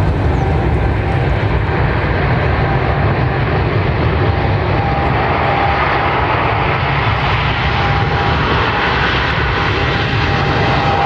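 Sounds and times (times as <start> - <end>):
airliner engines roaring: 0.0 - 11.0
faint engine whine: 0.0 - 11.0.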